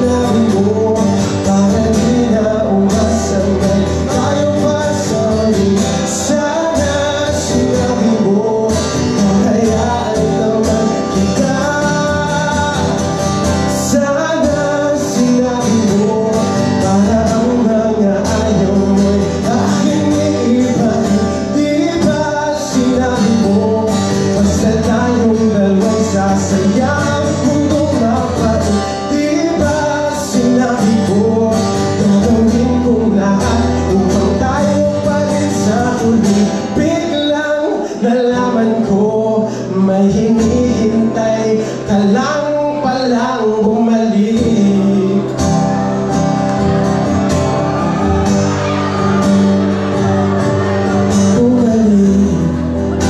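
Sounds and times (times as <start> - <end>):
guitar: 0.0 - 53.0
man singing: 0.0 - 53.0.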